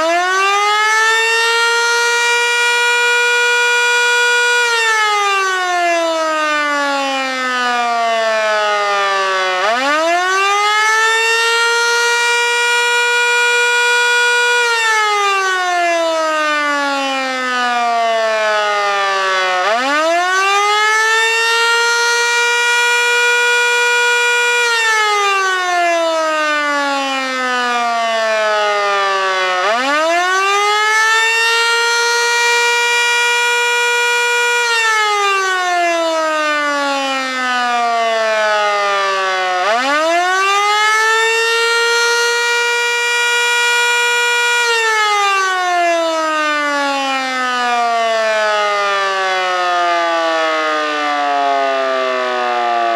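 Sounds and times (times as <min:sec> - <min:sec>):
fire siren wailing: 0:00.0 - 0:52.9.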